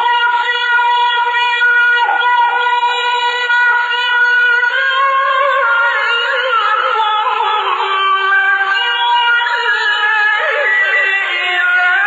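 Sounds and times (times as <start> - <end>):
man chanting a recitation: 0.0 - 12.0.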